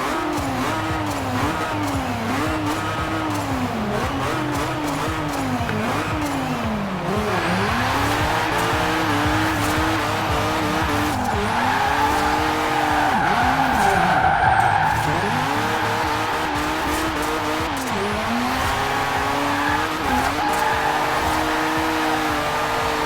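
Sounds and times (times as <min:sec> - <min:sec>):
tyre squeal: 0:00.0 - 0:22.4
rotary engine revving: 0:00.0 - 0:23.0.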